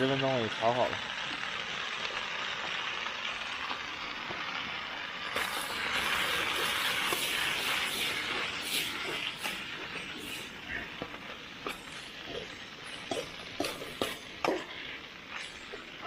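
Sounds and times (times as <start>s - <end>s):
stir-fry sizzling in a pot: 0.0s - 16.0s.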